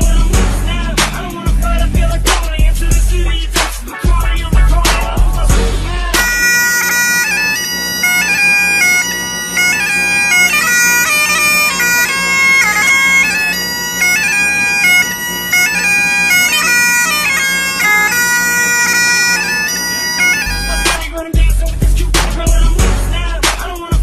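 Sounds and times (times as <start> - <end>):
bagpipe chanter melody: 0.0 - 3.4, 4.2 - 21.3
bagpipe drones: 0.0 - 21.3.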